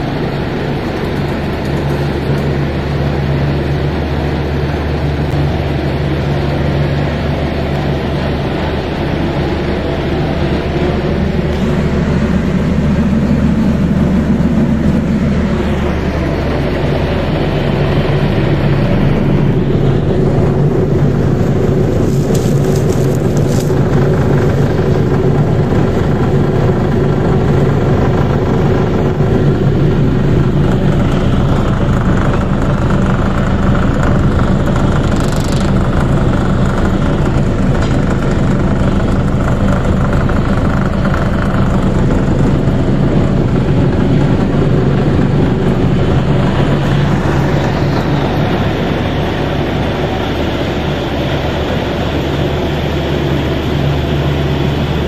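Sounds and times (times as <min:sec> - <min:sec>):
sifter motor hum and vibrating rumble: 0:00.0 - 0:55.0.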